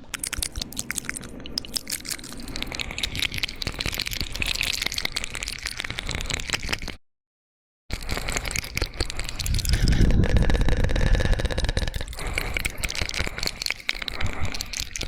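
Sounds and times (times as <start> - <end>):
wet mouth clicks and smacks: 0.0 - 7.0, 7.9 - 15.0.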